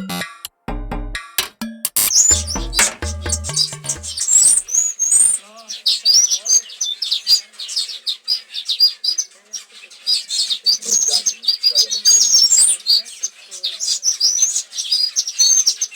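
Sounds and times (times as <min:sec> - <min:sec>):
sparrows chirping: 0:02.0 - 0:15.9.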